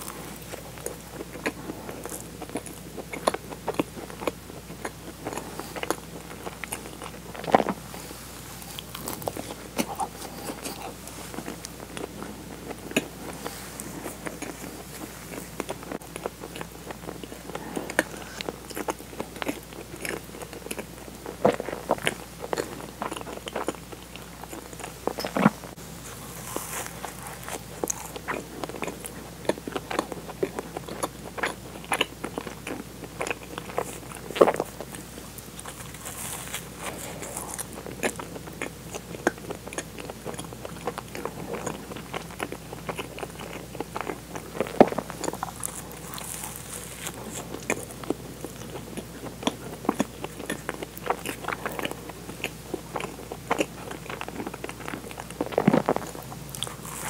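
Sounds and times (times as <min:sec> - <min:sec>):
person chewing soft donuts: 0:00.0 - 0:57.0.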